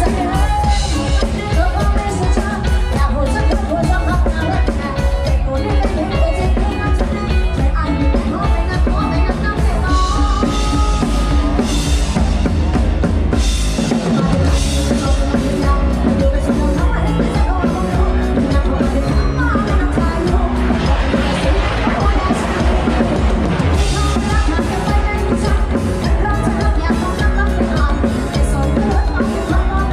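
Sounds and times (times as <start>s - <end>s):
heavy bass drum: 0.0s - 29.9s
instrumental band music: 0.0s - 29.9s.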